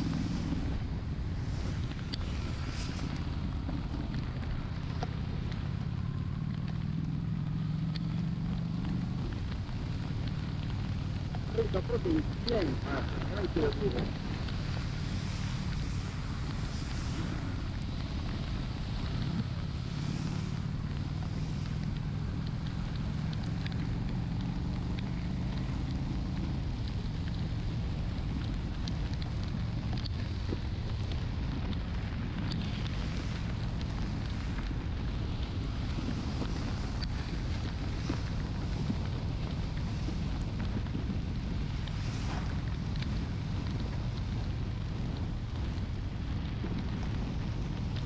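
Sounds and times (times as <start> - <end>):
wind buffeting microphone: 0.0 - 7.4, 8.4 - 48.0
motorcycle engine running: 0.0 - 48.0
raindrops ticking on camera: 0.1 - 48.0.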